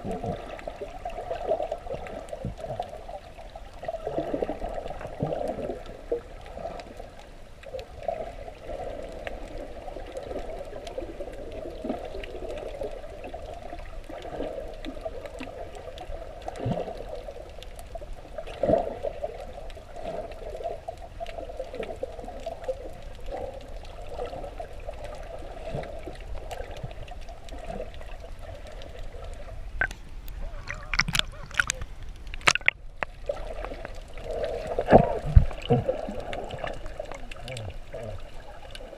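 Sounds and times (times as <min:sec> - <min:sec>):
sharp crackles: 0:00.0 - 0:38.9
underwater sloshing and gurgling: 0:00.0 - 0:38.9.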